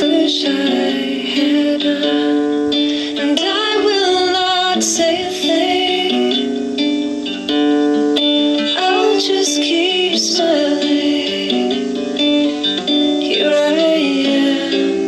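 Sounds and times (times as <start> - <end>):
person singing: 0.0 - 7.4, 8.6 - 15.0
plucked string instrument melody: 0.0 - 15.0.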